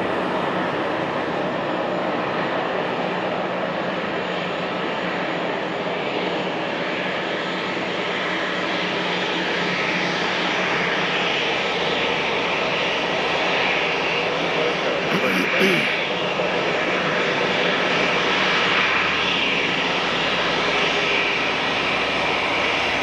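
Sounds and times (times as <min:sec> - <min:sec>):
aircraft engines rushing: 0:00.0 - 0:23.0.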